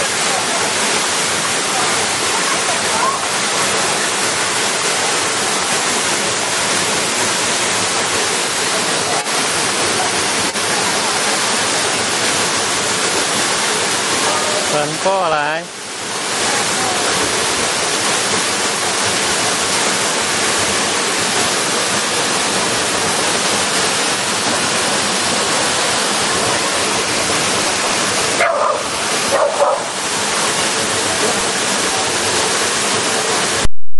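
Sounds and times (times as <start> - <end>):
waterfall pouring: 0.0 - 33.7.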